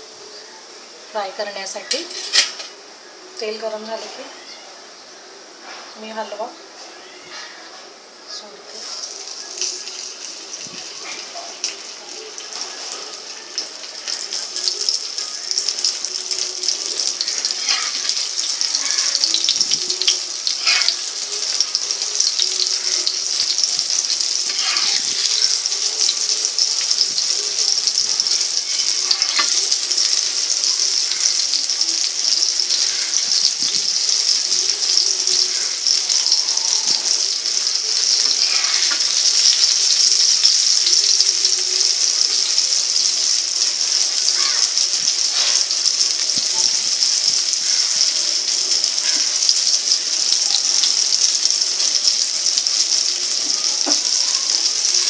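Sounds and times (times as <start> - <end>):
fish sizzling in hot oil: 1.1 - 4.2, 8.7 - 55.0
oil crackles and pops: 9.0 - 55.0.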